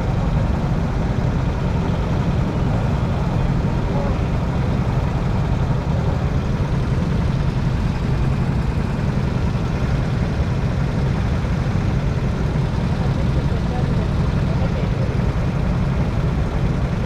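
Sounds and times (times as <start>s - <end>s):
go-kart engines idling: 0.0s - 17.0s.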